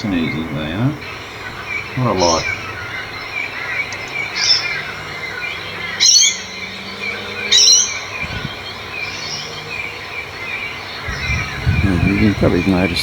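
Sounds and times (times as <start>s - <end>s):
birds chirping: 0.0s - 13.0s
harsh bird calls: 0.0s - 13.0s.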